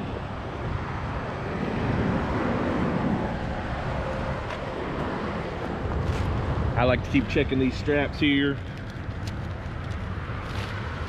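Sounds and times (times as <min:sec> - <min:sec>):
highway traffic rumble: 0:00.0 - 0:11.0
wind buffeting microphone: 0:00.0 - 0:11.0.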